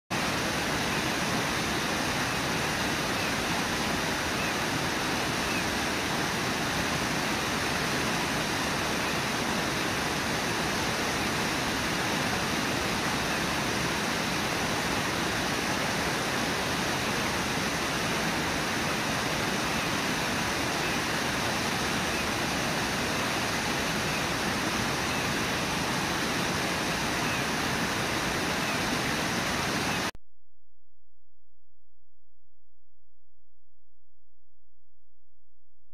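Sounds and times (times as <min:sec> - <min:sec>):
rushing white water: 0:00.1 - 0:30.1.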